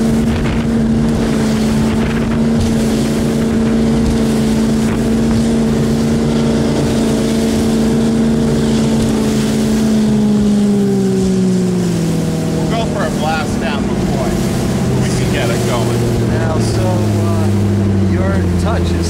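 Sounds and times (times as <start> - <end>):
powerboat engine running: 0.0 - 19.0
wind buffeting microphone: 0.0 - 19.0.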